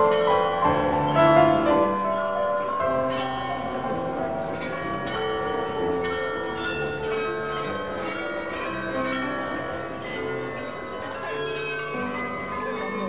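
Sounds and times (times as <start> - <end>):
bells playing a melody: 0.0 - 13.0.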